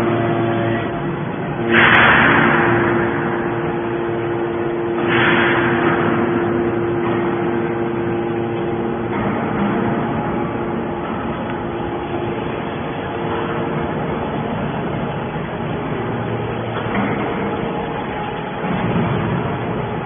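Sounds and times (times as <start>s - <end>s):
hydraulic pump humming: 0.0s - 20.0s
loud hydraulic rushing surges: 0.0s - 20.0s.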